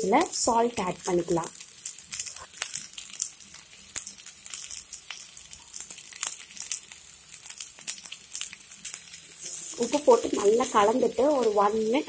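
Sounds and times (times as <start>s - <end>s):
cauliflower sizzling in oil: 0.0s - 12.0s.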